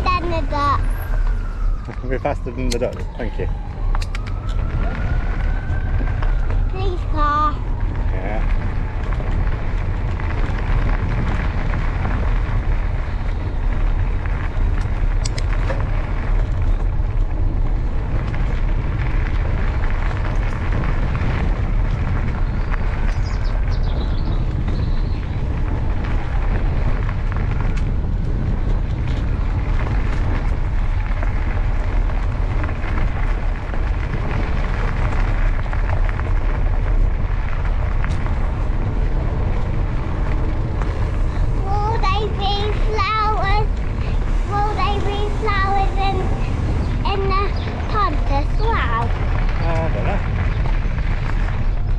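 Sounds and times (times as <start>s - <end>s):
bike tyres rolling on path: 0.0s - 51.9s
wind buffeting microphone: 0.0s - 51.9s.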